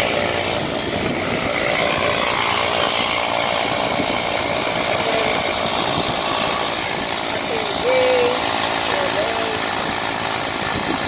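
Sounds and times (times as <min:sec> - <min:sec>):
tire inflator compressor buzzing: 0:00.0 - 0:11.0.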